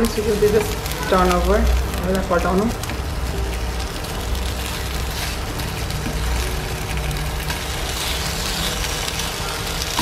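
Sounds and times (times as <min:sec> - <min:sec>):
chicken sizzling in oil: 0:00.0 - 0:10.0
wooden spatula turning food: 0:00.0 - 0:10.0.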